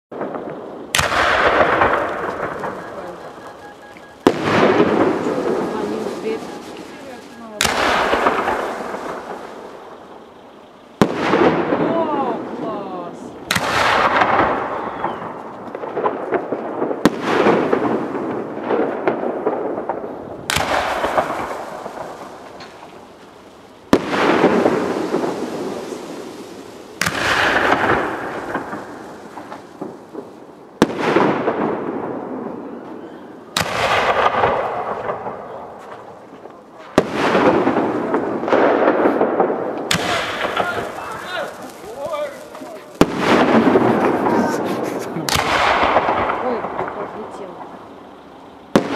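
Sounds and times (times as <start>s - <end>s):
firework shells bursting: 0.1s - 12.6s, 13.2s - 48.9s
firework crackle: 0.1s - 48.9s.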